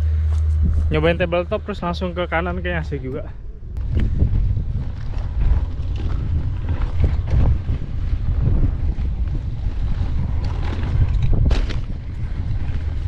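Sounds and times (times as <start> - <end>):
bike rattling over bumps: 0.0 - 13.0
wind buffeting microphone: 0.0 - 13.0.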